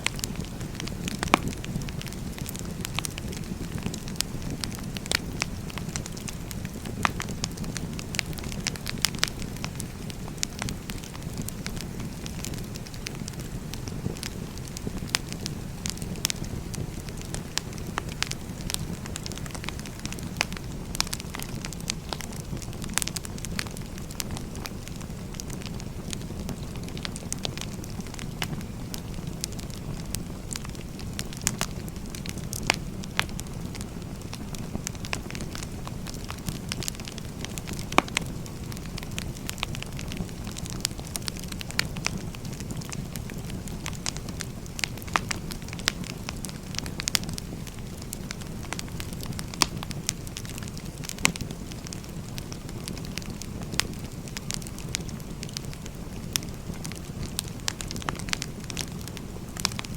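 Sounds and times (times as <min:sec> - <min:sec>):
fire crackling and popping: 0:00.0 - 0:59.9
low rushing of fire: 0:00.0 - 0:59.9.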